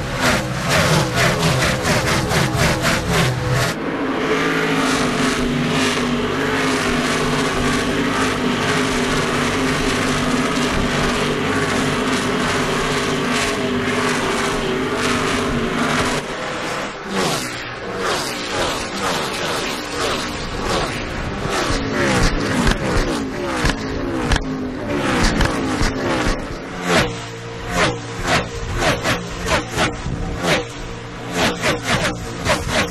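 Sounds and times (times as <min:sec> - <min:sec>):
race car engines droning: 0:00.0 - 0:32.9
race cars sweeping past: 0:00.0 - 0:32.9.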